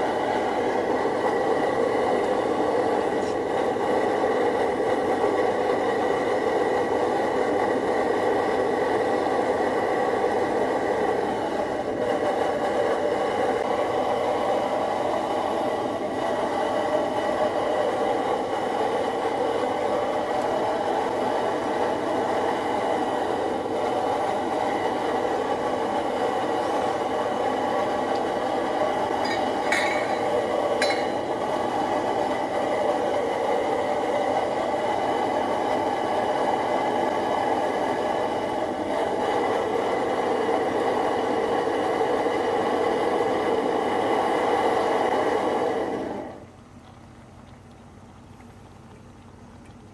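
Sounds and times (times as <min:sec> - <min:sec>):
stove burning with rushing noise: 0:00.0 - 0:49.9.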